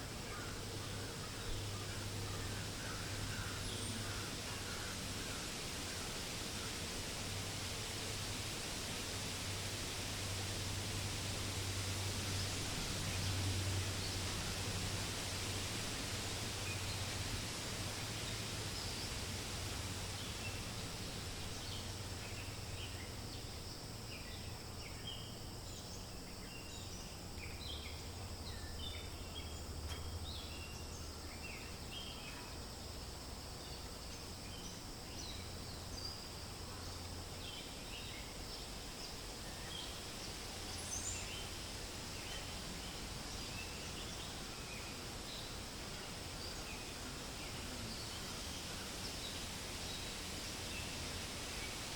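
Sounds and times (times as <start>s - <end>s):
wind rustling leaves: 0.0s - 51.9s.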